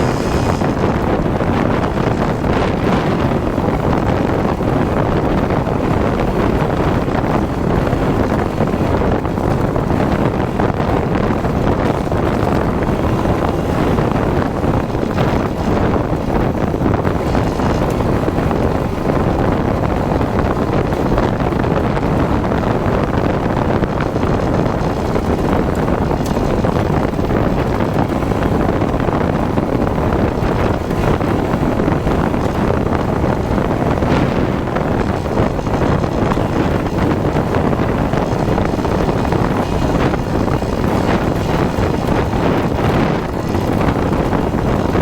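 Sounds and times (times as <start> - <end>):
motorcycle engine running: 0.0 - 45.0
wind buffeting microphone: 0.0 - 45.0.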